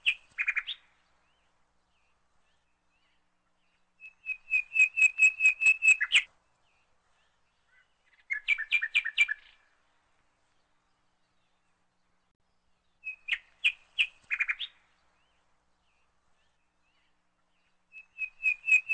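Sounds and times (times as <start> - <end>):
bird chirping: 0.0 - 18.9.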